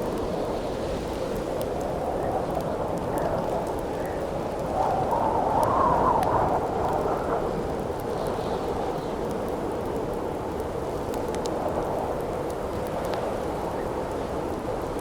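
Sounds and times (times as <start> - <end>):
campfire crackling and popping: 0.0 - 15.0
howling wind: 0.0 - 15.0.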